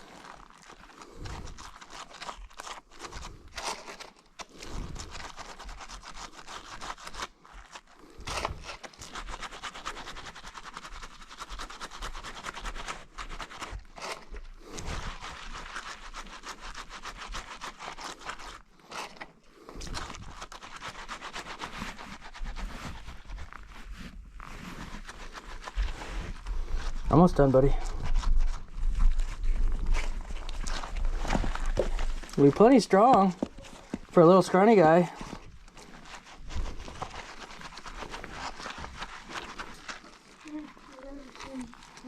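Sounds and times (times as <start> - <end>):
scratchy rubbing of wet wool: 0.0 - 42.0.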